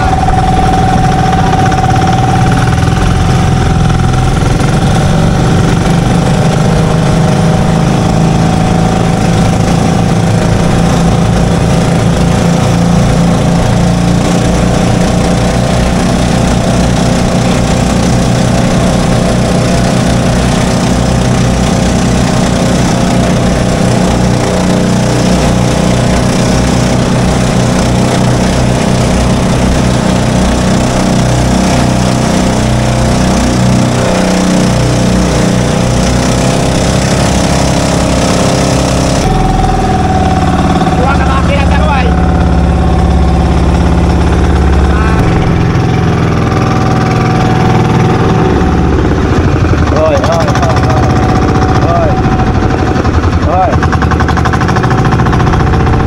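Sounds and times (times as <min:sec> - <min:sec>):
boat engines droning: 0:00.0 - 0:56.0.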